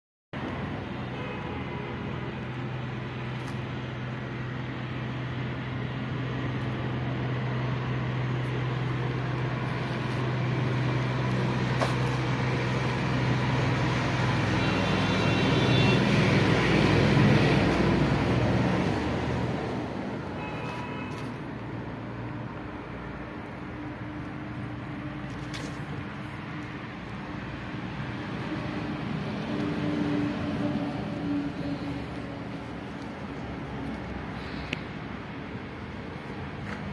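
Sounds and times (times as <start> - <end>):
road traffic noise: 0.4 - 36.9
steady engine hum: 0.4 - 36.9.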